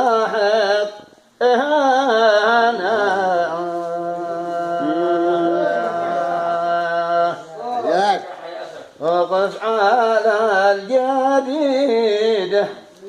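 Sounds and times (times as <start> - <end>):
man singing folk song: 0.0 - 7.5, 9.0 - 13.0.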